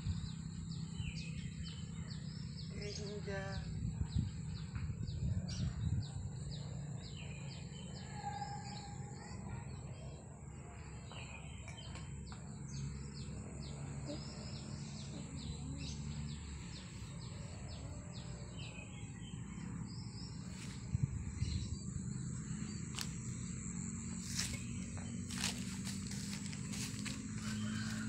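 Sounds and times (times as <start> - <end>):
low steady hum: 0.0 - 28.0
small birds chirping: 0.0 - 28.0.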